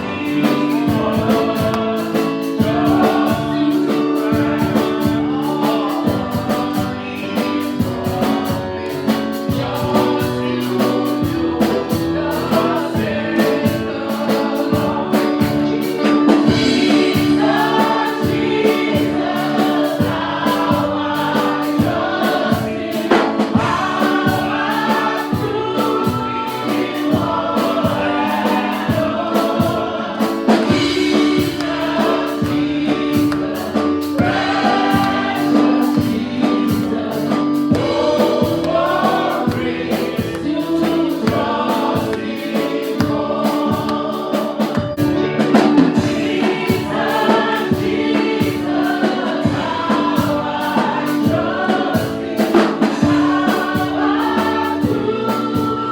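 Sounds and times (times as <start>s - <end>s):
band with steady drum beat: 0.0s - 55.9s
choir singing: 0.0s - 55.9s.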